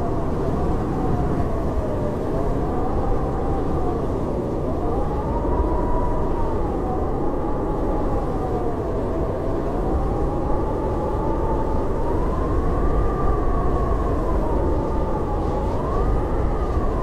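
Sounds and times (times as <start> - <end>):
howling blizzard wind: 0.0 - 17.0.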